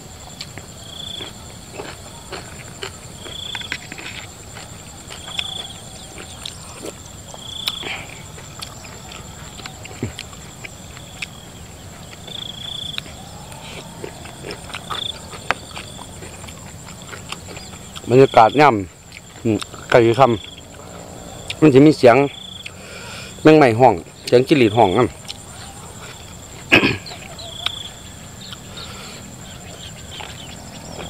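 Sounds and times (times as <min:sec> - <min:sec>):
crickets trilling: 0:00.0 - 0:31.0
open-mouth chewing and lip-smacking: 0:00.3 - 0:18.1, 0:19.0 - 0:20.6, 0:25.2 - 0:31.0.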